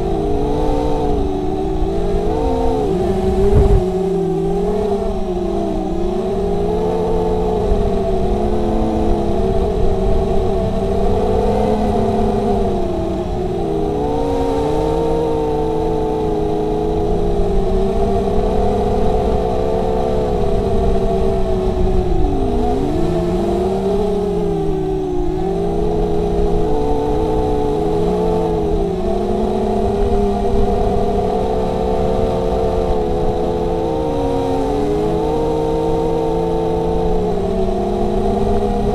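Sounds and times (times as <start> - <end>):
drone propellers buzzing whine: 0.0 - 38.9.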